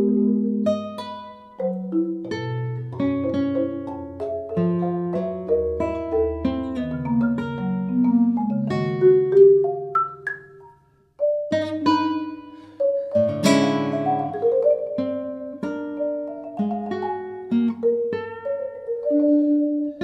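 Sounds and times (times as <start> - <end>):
classical guitar: 0.0 - 20.0
marimba: 0.0 - 20.0.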